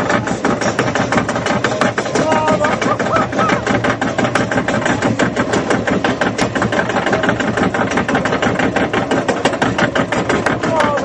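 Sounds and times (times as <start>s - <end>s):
lift mechanism running: 0.0s - 11.0s.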